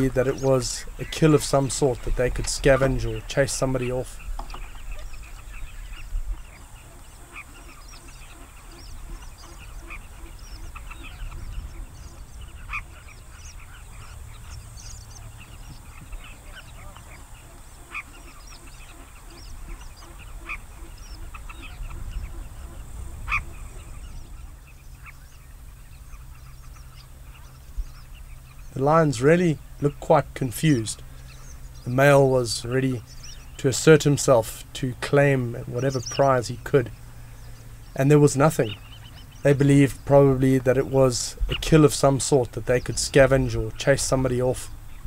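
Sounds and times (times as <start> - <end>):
birds calling: 0.0 - 45.0
steady low rumble: 0.0 - 45.0.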